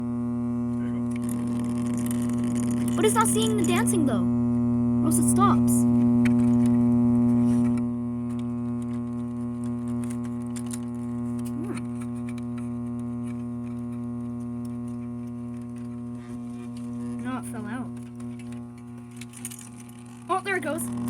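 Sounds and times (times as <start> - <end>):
speaker mains hum: 0.0 - 21.0.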